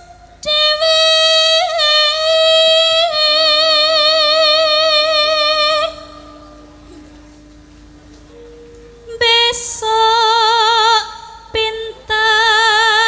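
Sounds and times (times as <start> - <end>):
woman singing high note with vibrato: 0.0 - 6.6, 9.0 - 13.0.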